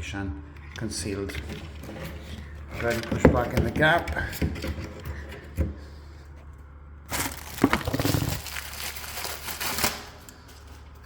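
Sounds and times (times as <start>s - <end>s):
cable rustling and scraping: 0.6s - 11.0s.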